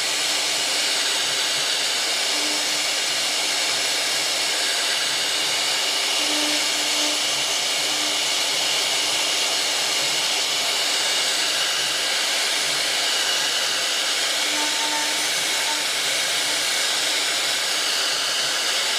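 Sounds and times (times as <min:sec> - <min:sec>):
cnc router hissing: 0:00.0 - 0:18.9.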